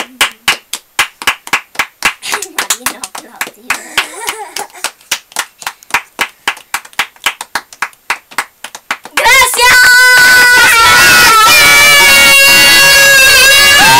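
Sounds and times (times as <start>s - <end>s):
hands clapping in applause: 0.0s - 13.9s.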